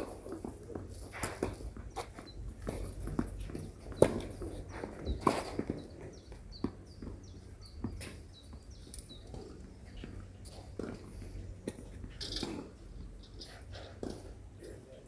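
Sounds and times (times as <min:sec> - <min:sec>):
knocks and scuffs: 0:00.0 - 0:15.0.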